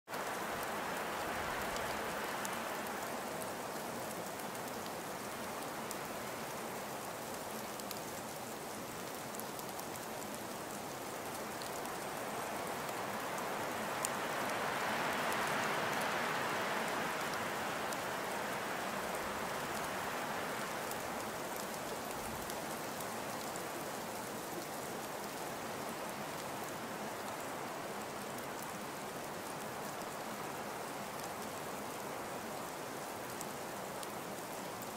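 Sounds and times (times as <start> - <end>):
fine raindrop ticks: 0.1 - 34.9
steady rain hiss: 0.1 - 34.9.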